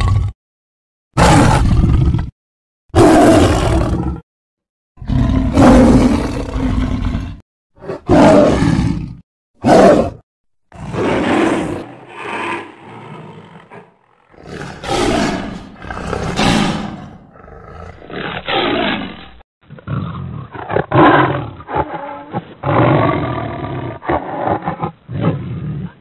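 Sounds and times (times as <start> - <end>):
big cat growling and snarling: 0.0 - 0.4, 1.2 - 2.4, 3.0 - 4.2, 5.0 - 26.0
big cat roaring: 0.0 - 0.4, 1.2 - 2.3, 3.0 - 4.2, 5.0 - 10.2, 10.8 - 26.0.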